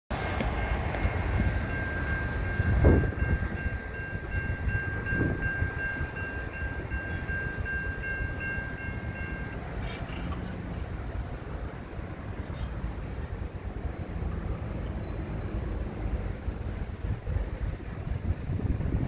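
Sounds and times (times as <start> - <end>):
crossing warning bell ringing: 0.2 - 17.4.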